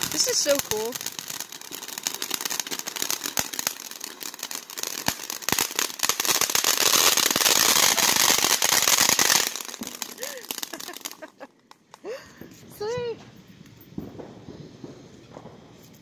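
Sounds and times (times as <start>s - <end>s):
firework fountain crackling: 0.0s - 16.0s.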